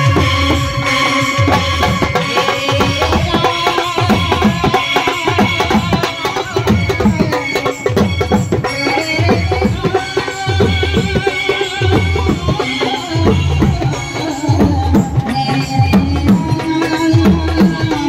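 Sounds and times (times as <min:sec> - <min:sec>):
bass drums and side drums beating: 0:00.0 - 0:18.0.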